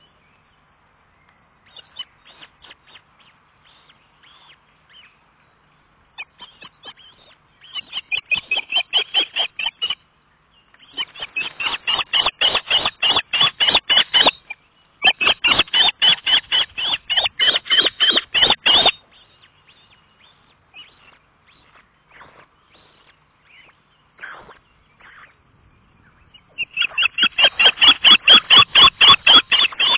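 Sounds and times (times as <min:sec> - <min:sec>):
osprey calling: 0:01.6 - 0:05.2, 0:06.2 - 0:10.0, 0:10.7 - 0:29.9.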